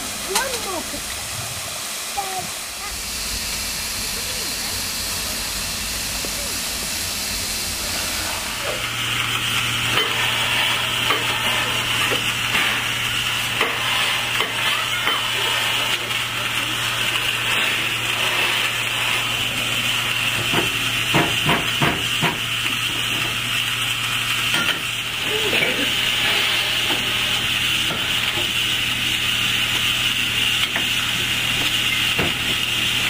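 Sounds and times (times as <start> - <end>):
steam hissing: 0.0 - 33.0.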